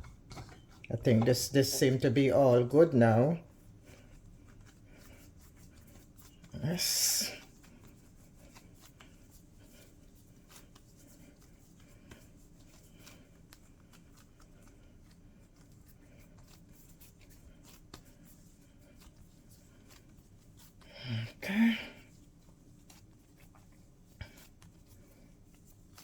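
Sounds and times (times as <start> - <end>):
soft ticks and rustles of dough: 0.0 - 26.0.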